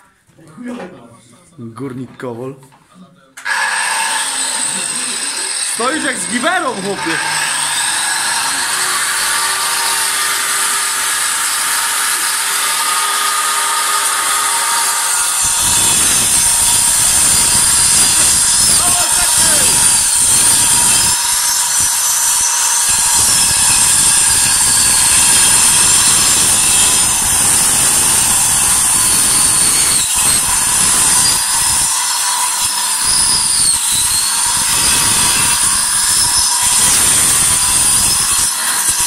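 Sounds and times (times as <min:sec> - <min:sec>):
angle grinder cutting masonry: 0:03.4 - 0:39.0.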